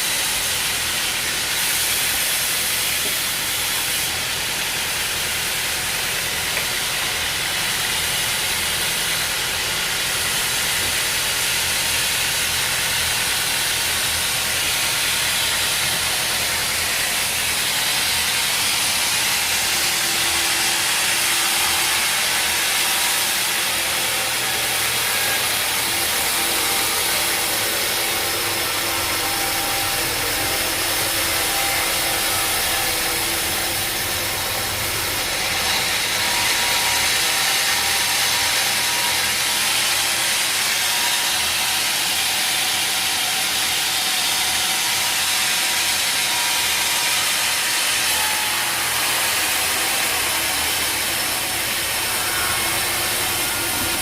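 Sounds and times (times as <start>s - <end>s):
sawmill machinery sawing wood: 0.0s - 54.0s.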